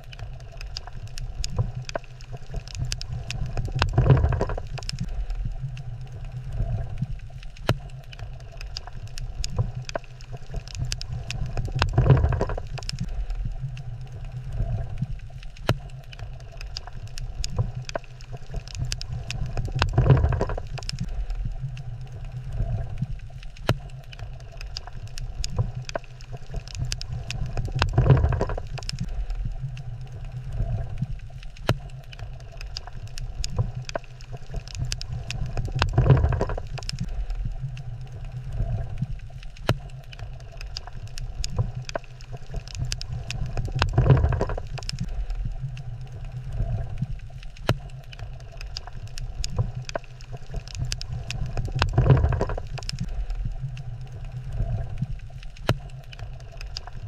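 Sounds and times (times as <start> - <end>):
low rumble of moving water: 0.0 - 57.0
sharp underwater clicks: 0.0 - 57.0.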